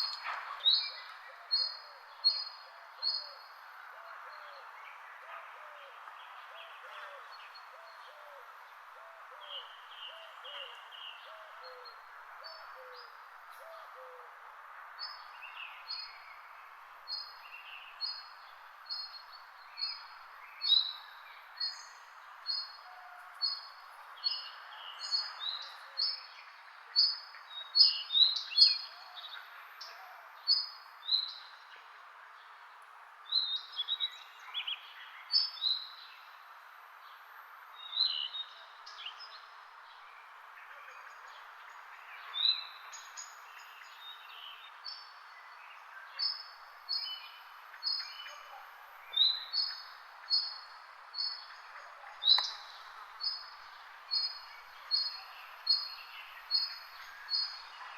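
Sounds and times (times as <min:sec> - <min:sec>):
steady background hiss: 0:00.0 - 0:57.9.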